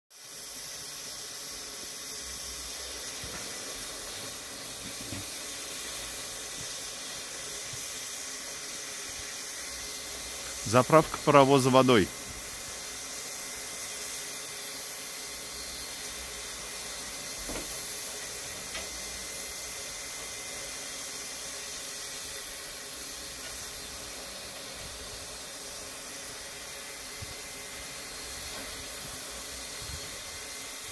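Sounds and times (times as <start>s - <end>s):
steam hissing: 0.1s - 30.9s.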